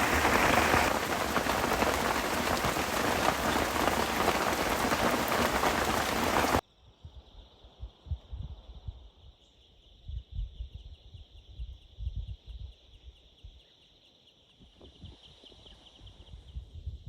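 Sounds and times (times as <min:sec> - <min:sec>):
wind rumbling on microphone: 0:00.0 - 0:13.6, 0:14.6 - 0:17.0.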